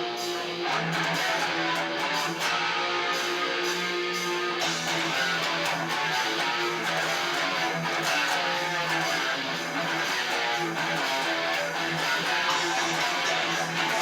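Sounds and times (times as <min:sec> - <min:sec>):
strummed guitar: 0:00.0 - 0:14.0.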